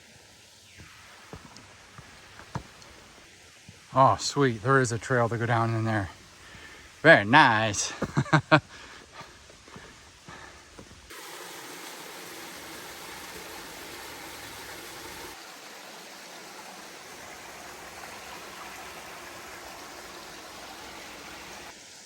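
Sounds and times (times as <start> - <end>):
creek water rushing over falls: 0.0 - 22.0.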